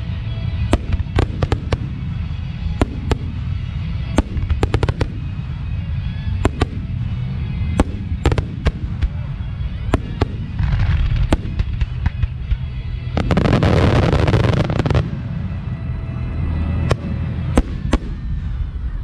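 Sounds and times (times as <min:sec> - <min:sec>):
low rumble: 0:00.0 - 0:19.0
fireworks bangs: 0:00.6 - 0:05.4, 0:06.3 - 0:15.6, 0:16.8 - 0:18.6
fireworks crackling: 0:00.6 - 0:16.0.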